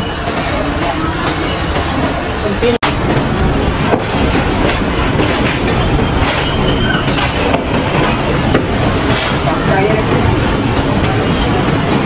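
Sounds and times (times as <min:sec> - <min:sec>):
construction site rumble: 0:00.0 - 0:12.0.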